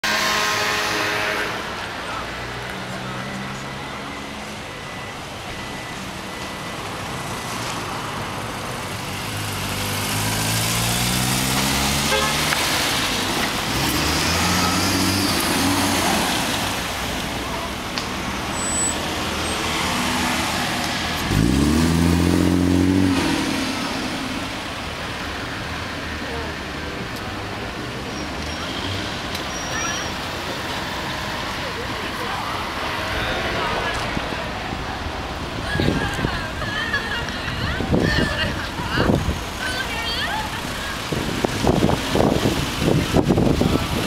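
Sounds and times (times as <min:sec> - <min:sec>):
car engines passing: 0:00.0 - 0:44.0.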